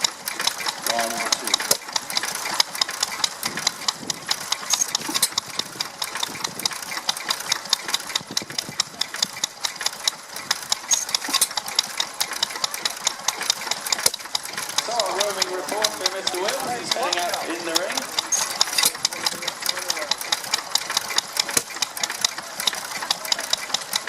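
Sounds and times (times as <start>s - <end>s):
stationary engine clattering: 0.0s - 24.0s.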